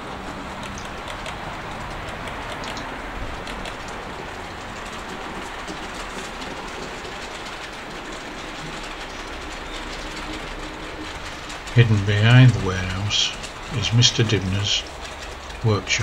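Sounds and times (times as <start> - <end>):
model train wheels rumbling on rails: 0.0 - 16.0.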